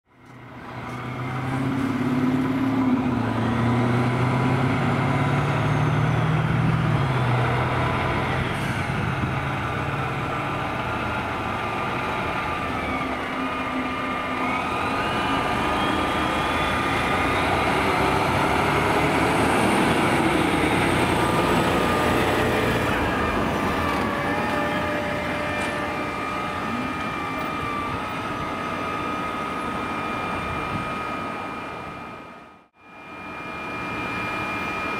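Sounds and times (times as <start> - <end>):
fire truck diesel engine: 0.1 - 34.9
siren wailing: 2.6 - 34.9.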